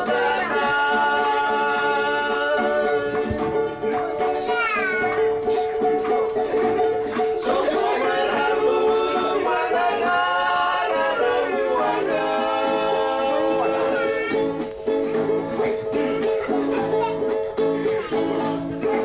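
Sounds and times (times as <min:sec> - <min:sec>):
voices singing in harmony: 0:00.0 - 0:19.0.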